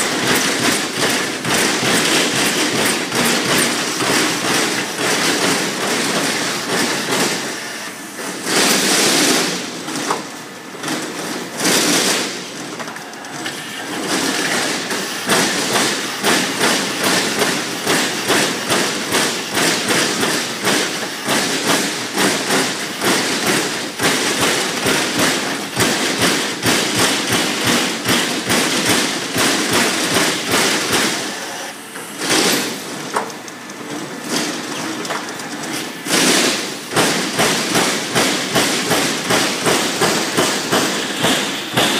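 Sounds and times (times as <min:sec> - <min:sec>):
punch press punching sheet metal: 0:00.0 - 0:41.9.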